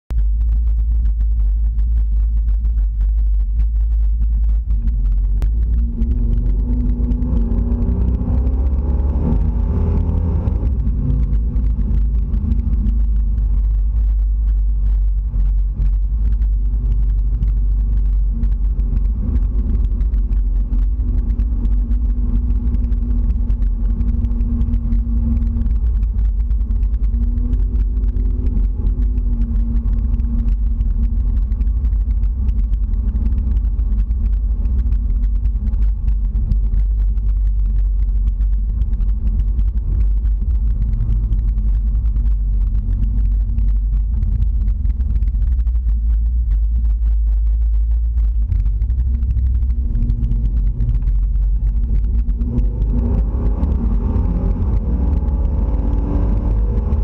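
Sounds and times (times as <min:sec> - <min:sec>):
car engine and road noise: 0:00.1 - 0:57.0.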